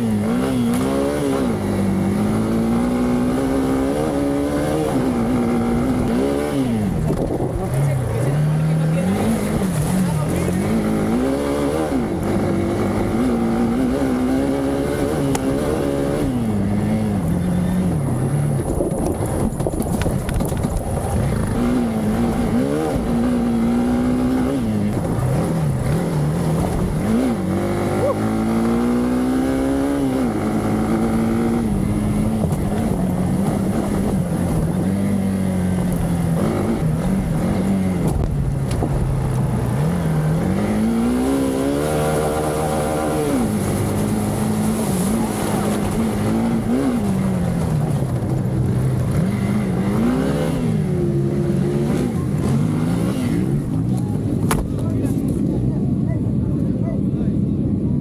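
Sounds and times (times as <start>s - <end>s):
motorcycle engine revving: 0.0s - 55.8s.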